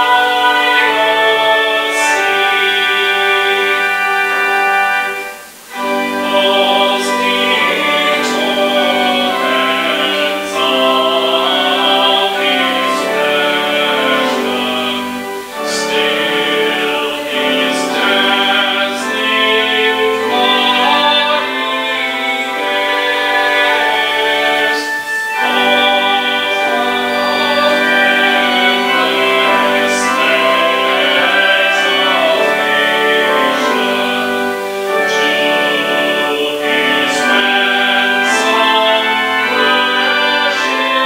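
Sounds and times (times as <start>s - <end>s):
person singing: 0.0s - 41.0s
sustained instrumental accompaniment: 0.0s - 41.0s.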